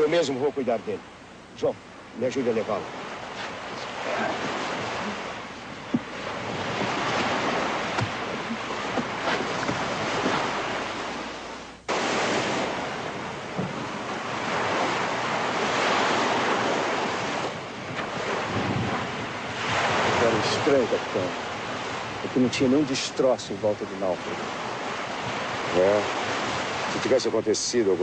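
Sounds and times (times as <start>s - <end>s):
sea waves washing: 0.0s - 28.0s
wind: 0.0s - 28.0s.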